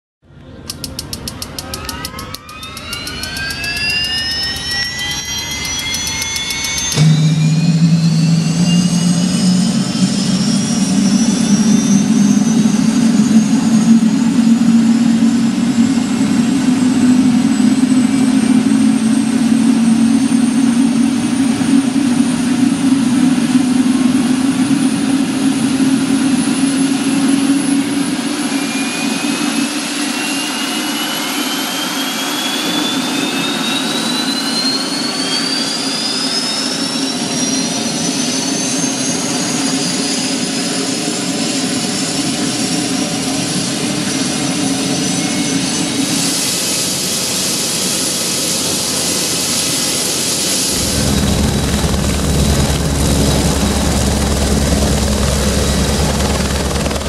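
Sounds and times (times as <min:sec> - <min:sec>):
helicopter engine low hum: 0:00.6 - 0:35.7, 0:36.4 - 0:57.0
turbine whine rising in pitch: 0:01.1 - 0:57.0.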